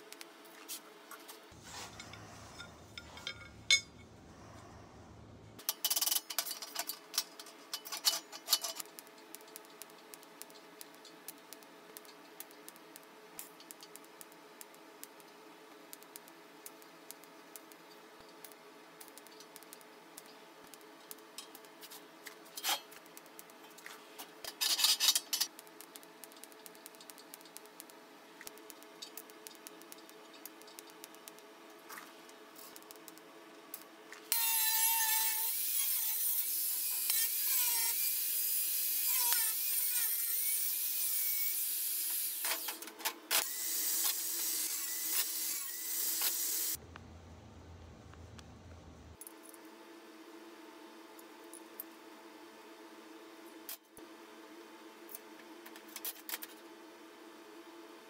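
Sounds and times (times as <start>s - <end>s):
faint steady hum: 0.0s - 35.4s, 46.7s - 58.0s.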